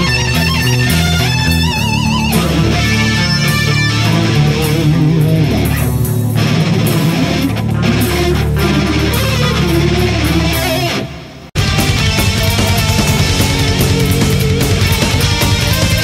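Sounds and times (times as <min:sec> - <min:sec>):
bass and drums: 0:00.0 - 0:16.0
distorted electric guitar solo: 0:00.0 - 0:16.0.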